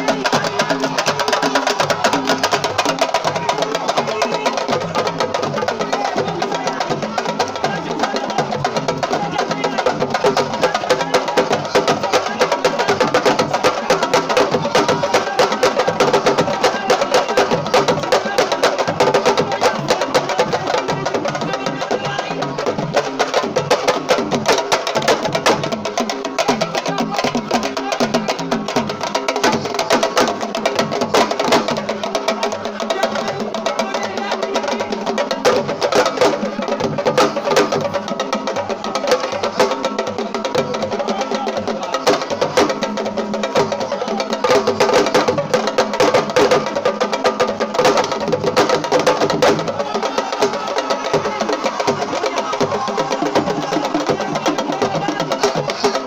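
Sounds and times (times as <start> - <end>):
sabar drums played fast: 0.0 - 56.0.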